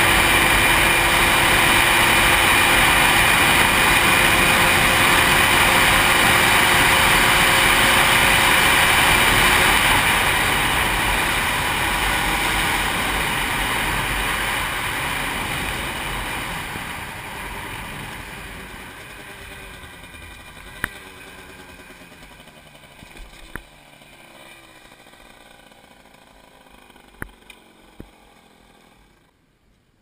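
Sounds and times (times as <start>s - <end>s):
two-stroke moped engine: 0.0s - 29.4s.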